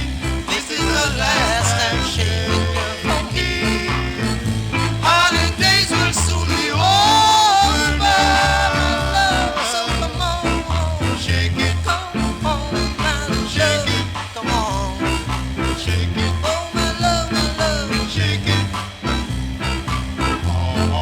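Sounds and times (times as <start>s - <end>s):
vocal group singing with band: 0.0s - 19.1s, 20.3s - 21.0s
repeating bass line: 0.0s - 21.0s.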